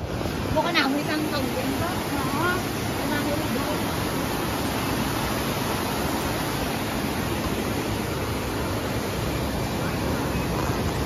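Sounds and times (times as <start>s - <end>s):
fountain jets splashing into pool: 0.0s - 11.0s.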